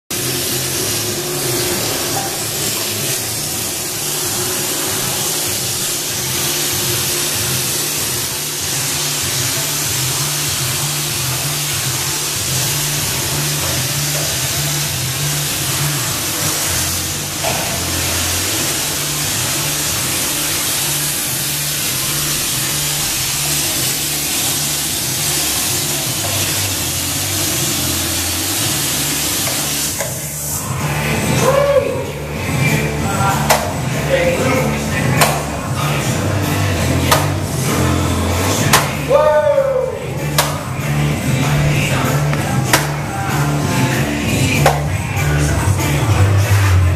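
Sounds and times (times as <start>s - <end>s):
steady hiss: 0.1s - 39.2s
background music with bass line: 0.1s - 46.9s.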